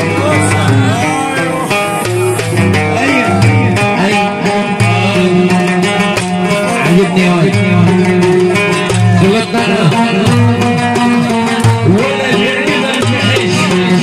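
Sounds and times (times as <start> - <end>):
oud folk music: 0.0 - 14.0.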